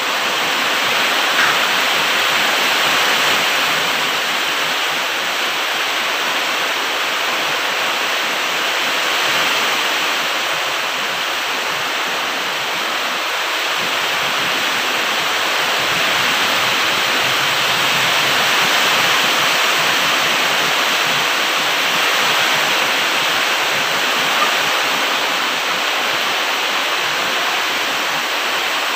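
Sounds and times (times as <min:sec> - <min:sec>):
steady rushing noise: 0:00.0 - 0:28.9.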